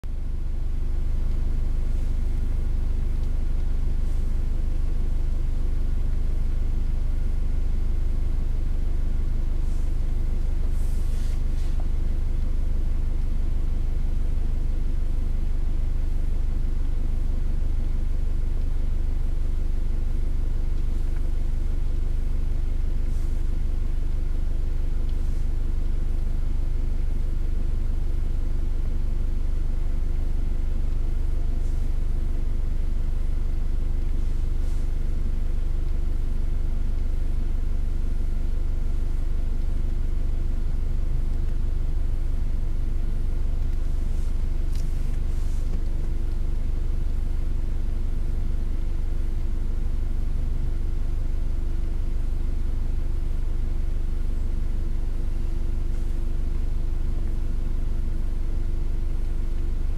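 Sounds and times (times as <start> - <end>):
car engine idling: 0.0 - 58.7.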